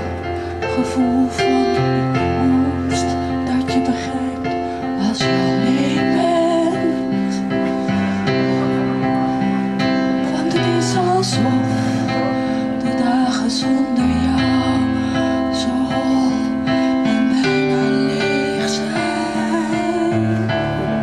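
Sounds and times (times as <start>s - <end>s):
instrumental accompaniment: 0.0s - 21.0s
woman singing into a microphone: 0.0s - 21.0s.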